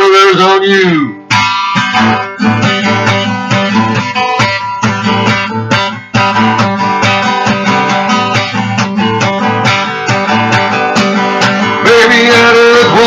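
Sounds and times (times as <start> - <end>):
guitar strumming chords: 1.0 - 13.0.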